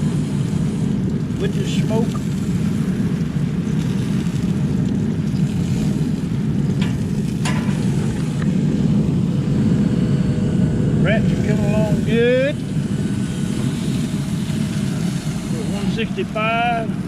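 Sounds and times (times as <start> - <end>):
steady rain rumble: 0.0 - 17.0.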